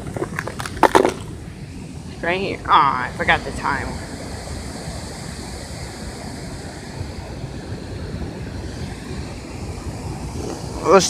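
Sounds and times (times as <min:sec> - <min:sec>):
wind buffeting microphone: 0:00.0 - 0:11.0
water rushing through a dam: 0:02.0 - 0:11.0.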